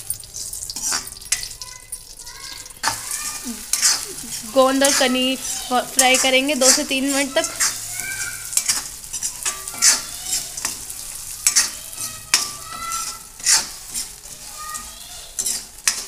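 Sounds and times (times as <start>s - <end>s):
gum sizzling in ghee: 0.0s - 16.0s
steel spoon scraping pan: 0.0s - 16.0s.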